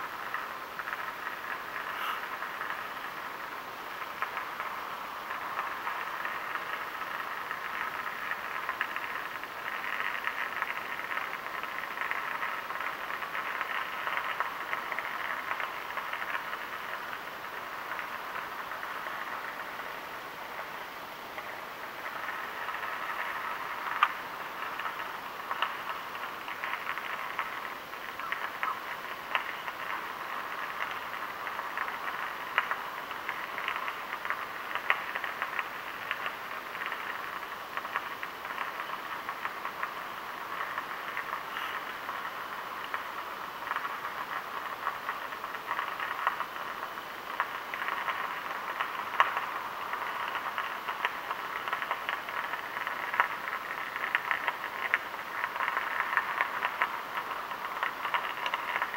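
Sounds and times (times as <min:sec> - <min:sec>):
electrical arc crackling: 0:00.0 - 0:58.9.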